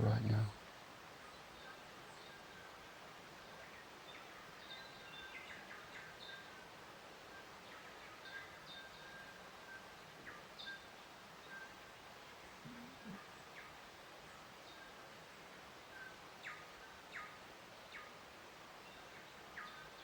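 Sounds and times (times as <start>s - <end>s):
soft background hiss: 0.0s - 20.0s.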